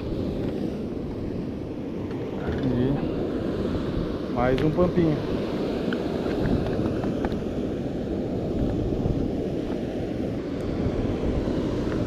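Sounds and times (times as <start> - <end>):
sea surf: 0.0 - 12.0
wind buffeting microphone: 0.0 - 12.0.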